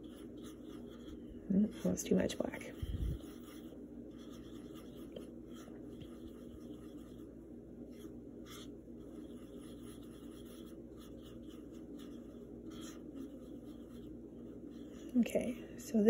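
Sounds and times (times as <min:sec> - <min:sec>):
paintbrush scratching on palette: 0:00.0 - 0:15.4
steady low hum: 0:00.0 - 0:16.0.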